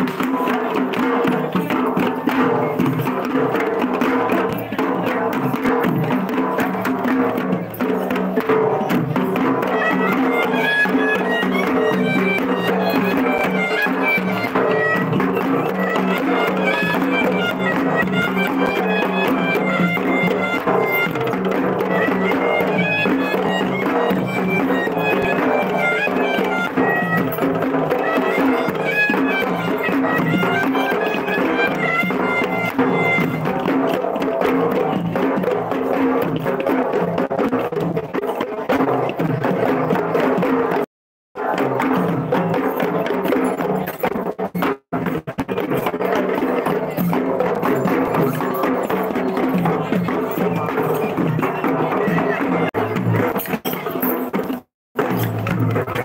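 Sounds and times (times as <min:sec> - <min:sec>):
drums beating: 0:00.0 - 0:56.0.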